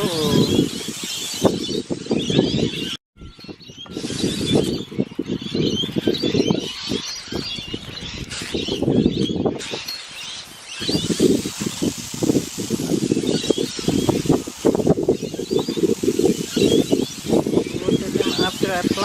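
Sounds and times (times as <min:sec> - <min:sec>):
birds chirping and chattering: 0:00.0 - 0:03.0, 0:03.6 - 0:19.0
wind rumble on microphone: 0:00.0 - 0:19.0.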